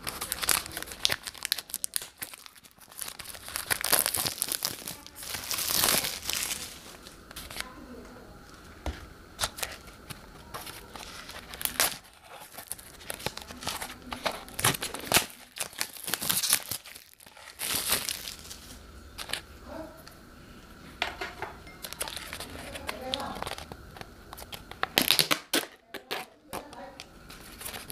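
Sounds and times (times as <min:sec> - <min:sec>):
plastic packaging crinkling and tearing: 0:00.0 - 0:08.8, 0:09.4 - 0:19.8, 0:21.8 - 0:27.9.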